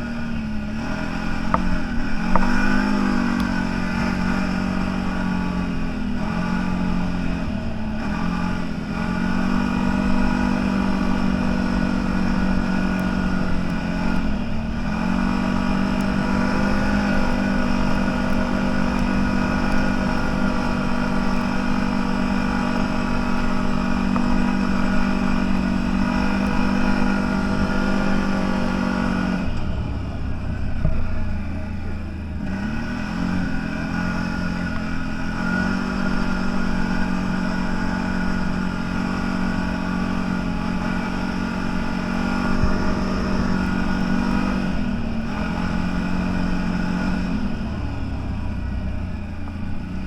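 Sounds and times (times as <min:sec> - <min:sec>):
off-road vehicle engine running: 0:00.0 - 0:50.0.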